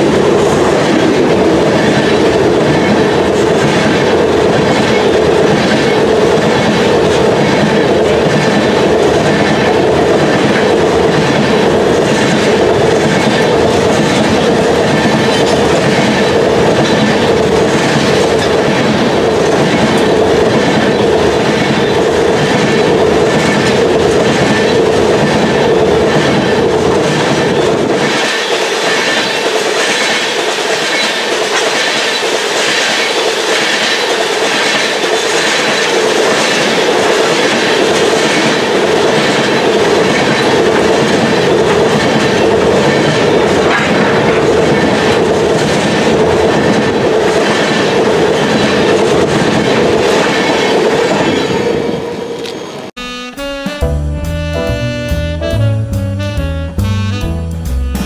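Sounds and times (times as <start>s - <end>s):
train wheels clicking over rail joints: 0.0s - 52.6s.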